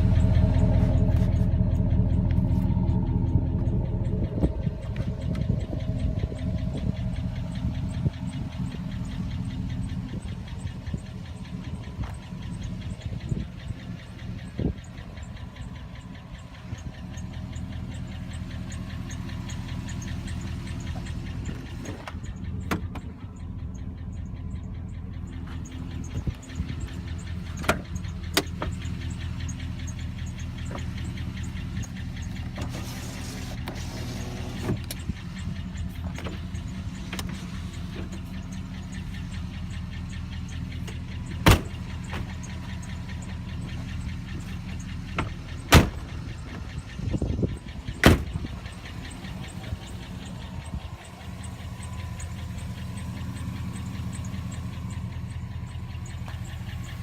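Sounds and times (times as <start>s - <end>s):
pickup engine idling with ticking: 0.0s - 57.0s.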